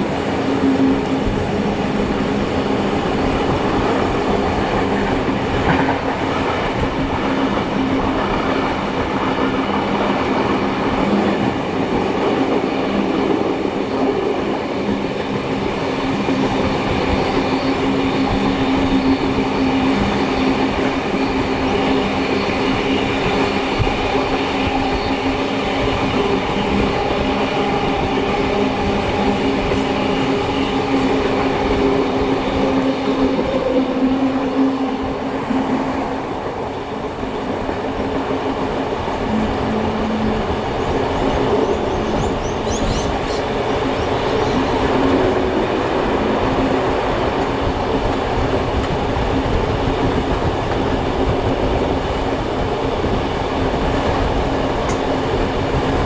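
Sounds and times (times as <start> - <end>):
train carriages rumbling on rails: 0.0 - 56.0.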